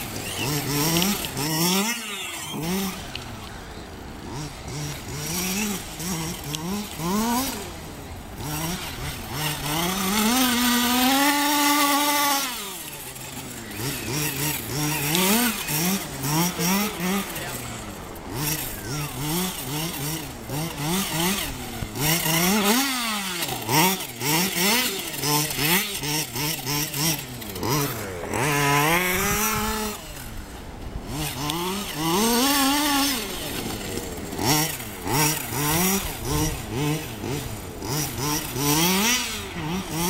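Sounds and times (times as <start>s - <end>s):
small two-stroke engine revving: 0.0s - 40.0s.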